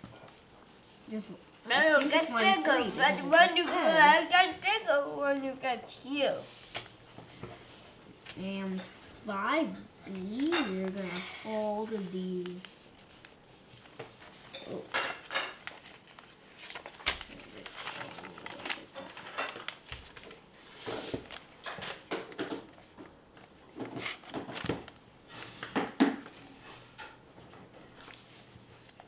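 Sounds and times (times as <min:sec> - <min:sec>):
paper rustling and crinkling: 0:00.0 - 0:29.0.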